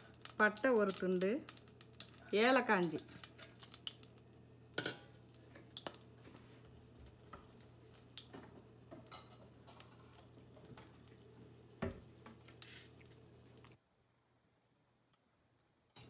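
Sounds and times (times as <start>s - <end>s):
spices crackling in oil: 0.0s - 13.8s.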